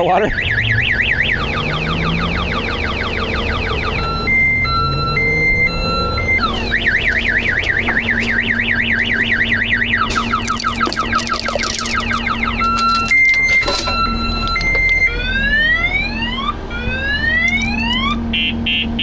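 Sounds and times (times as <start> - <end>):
car alarm siren: 0.2 - 19.0.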